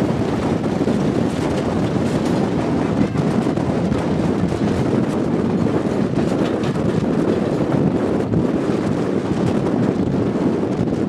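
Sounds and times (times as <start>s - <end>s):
train wheels rumbling on track: 0.0s - 11.0s
wind buffeting microphone: 0.0s - 11.0s.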